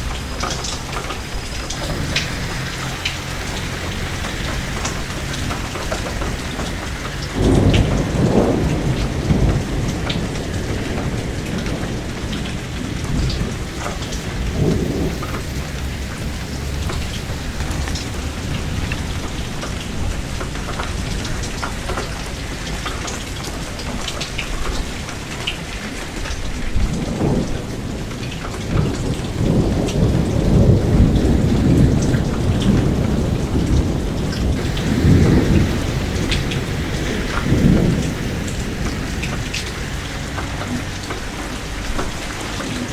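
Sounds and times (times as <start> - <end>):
thunder rolling: 0.0 - 20.3, 27.0 - 42.9
raindrops ticking on surface: 0.0 - 42.9
steady rain: 0.0 - 42.9.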